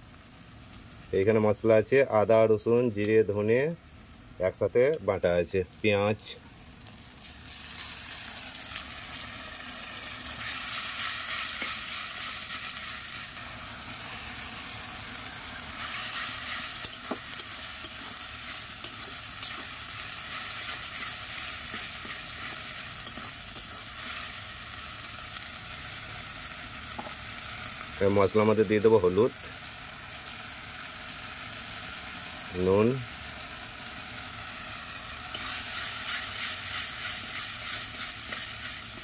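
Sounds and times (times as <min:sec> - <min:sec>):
paste sizzling in hot oil: 0:06.5 - 0:39.0.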